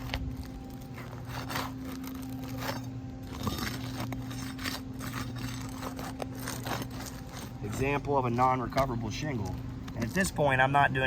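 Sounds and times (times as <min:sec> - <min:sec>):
roof shingle scraping and crinkling: 0:00.0 - 0:11.0
steady low hum: 0:00.0 - 0:11.0.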